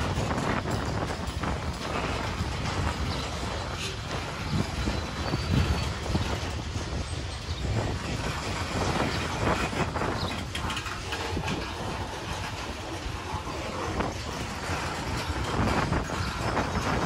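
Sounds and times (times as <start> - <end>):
freight train rumbling: 0.0 - 17.0
train clanks and clicks: 0.0 - 17.0.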